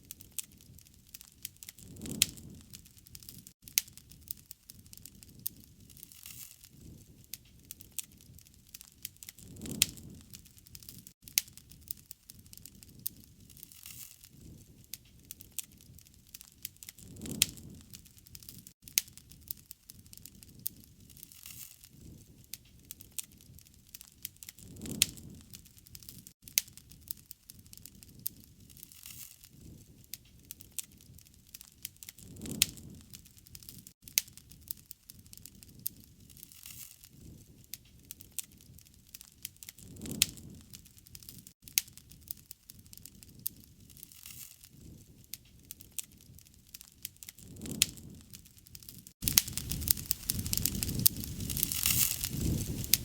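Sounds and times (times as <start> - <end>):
campfire crackling: 0.0 - 53.0
fire pops: 0.0 - 53.0
rush of flames: 0.0 - 53.0.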